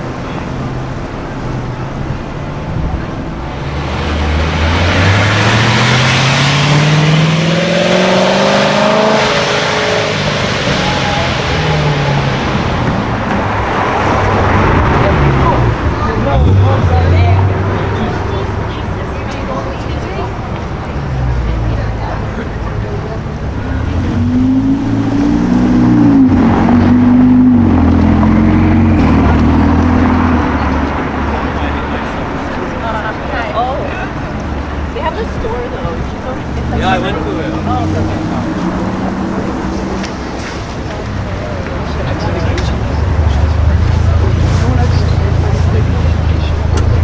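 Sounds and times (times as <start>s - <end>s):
sports car engine accelerating: 0.0s - 47.0s
traffic noise: 0.0s - 47.0s.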